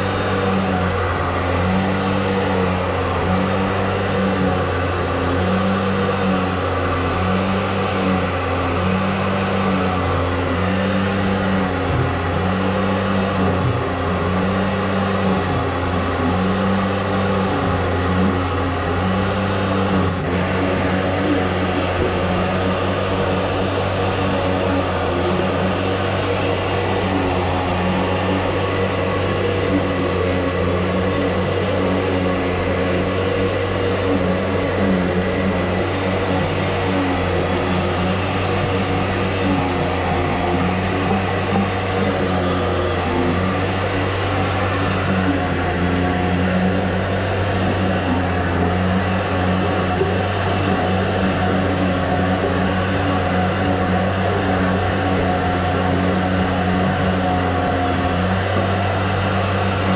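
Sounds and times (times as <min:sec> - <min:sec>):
motor humming: 0:06.2 - 0:59.9.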